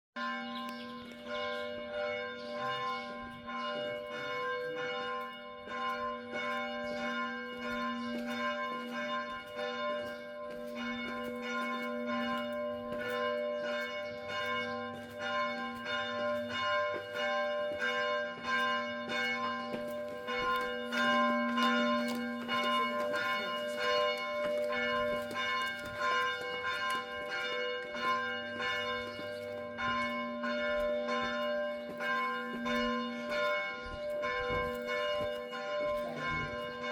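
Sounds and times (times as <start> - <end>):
church bells ringing: 0.2 - 36.9.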